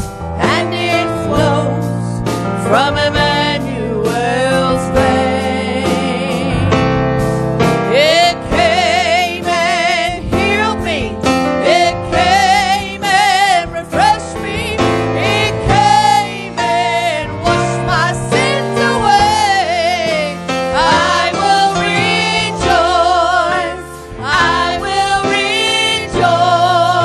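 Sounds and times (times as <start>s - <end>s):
piano and keyboard chords: 0.0s - 27.0s.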